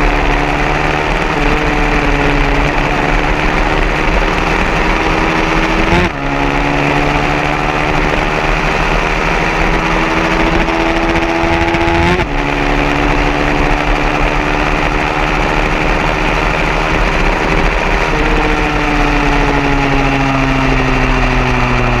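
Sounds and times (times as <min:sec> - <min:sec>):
loud rushing noise: 0:00.0 - 0:22.0
motorcycle engine accelerating: 0:00.0 - 0:22.0.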